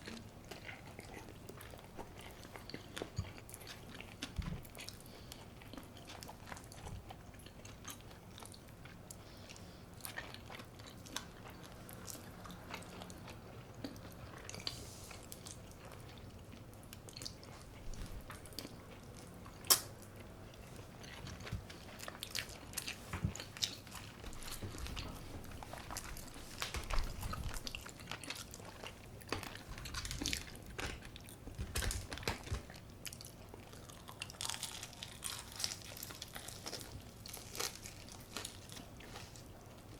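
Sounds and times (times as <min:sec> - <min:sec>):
person crunching food: 0:00.0 - 0:39.9.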